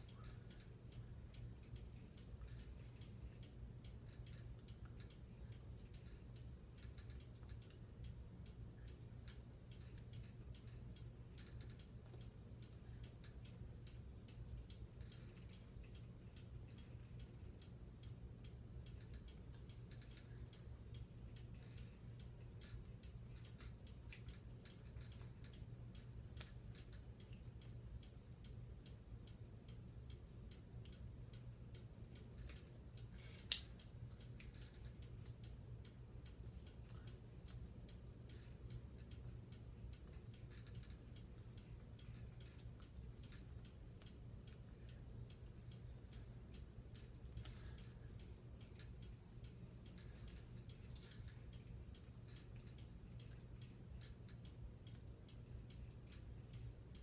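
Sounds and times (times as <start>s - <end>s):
faint rapid ticking: 0.0s - 57.0s
low steady hum: 0.0s - 57.0s.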